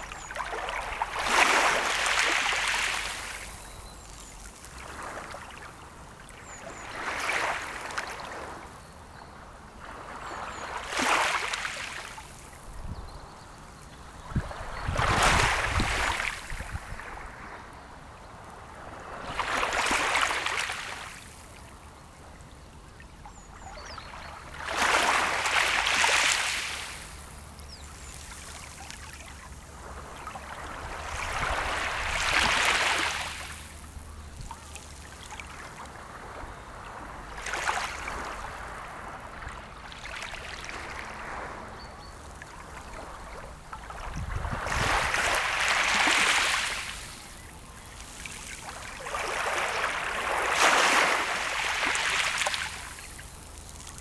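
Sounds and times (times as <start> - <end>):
small waves washing on shore: 0.0 - 8.9, 9.5 - 12.8, 14.1 - 22.0, 22.9 - 54.0.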